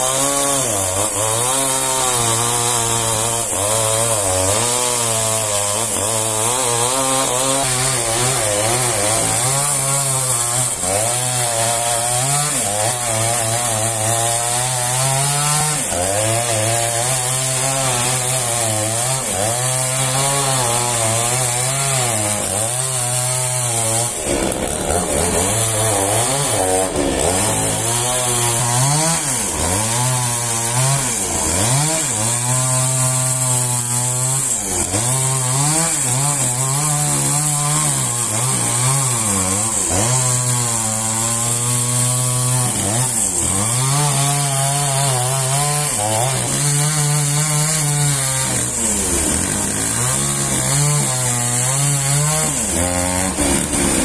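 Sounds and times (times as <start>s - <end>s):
chainsaw cutting into log: 0.0s - 54.0s.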